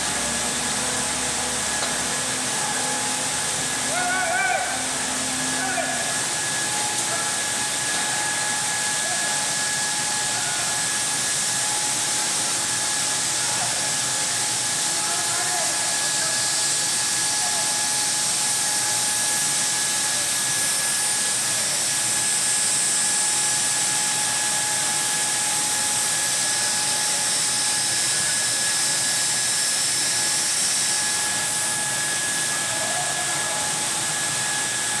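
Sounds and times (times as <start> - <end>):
drilling machine hissing: 0.0 - 35.0
two-tone high whine: 0.0 - 35.0.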